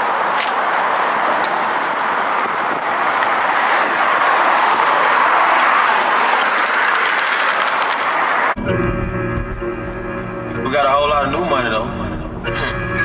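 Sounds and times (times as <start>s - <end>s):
freeway traffic roar: 0.0s - 13.0s.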